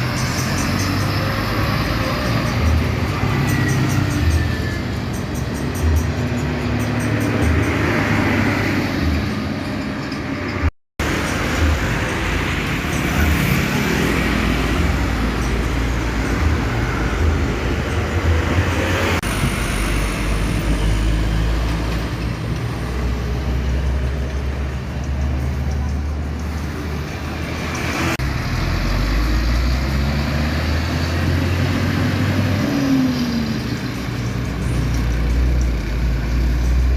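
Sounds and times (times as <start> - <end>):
diesel trucks engine rumble: 0.0 - 36.9
traffic noise: 0.0 - 36.9.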